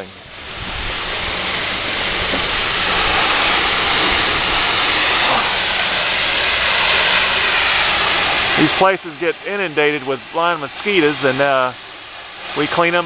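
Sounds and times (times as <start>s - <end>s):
high-pressure water spray hissing: 0.0s - 13.0s
pump engine hum: 0.0s - 13.0s.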